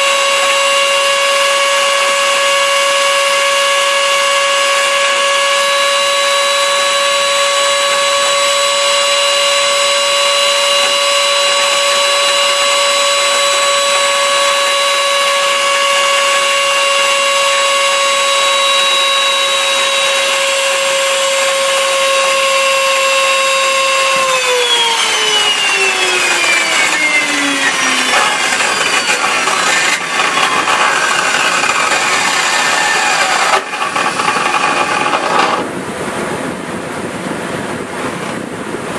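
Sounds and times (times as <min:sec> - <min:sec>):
blender motor whining: 0:00.0 - 0:35.7.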